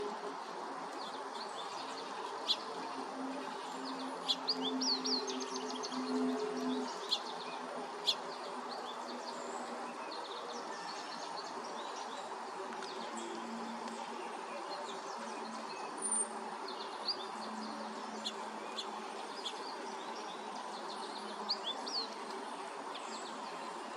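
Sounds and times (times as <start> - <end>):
songbirds chirping: 0.0 - 23.9.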